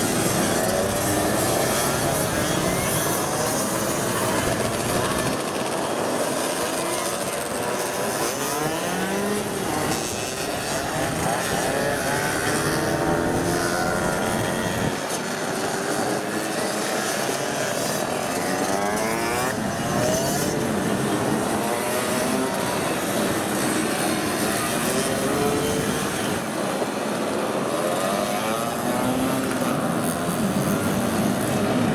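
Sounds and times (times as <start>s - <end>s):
moped engines passing: 0.0s - 31.9s.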